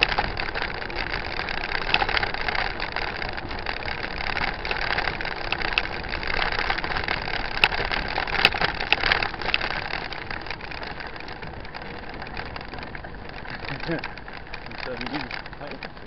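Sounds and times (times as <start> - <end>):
bike clicks and rattles: 0.0 - 16.0
tyre and wind noise: 0.0 - 16.0.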